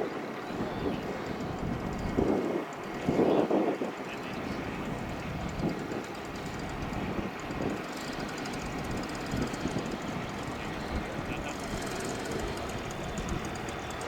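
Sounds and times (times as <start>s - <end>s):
jet aircraft engines rumbling: 0.0s - 14.0s.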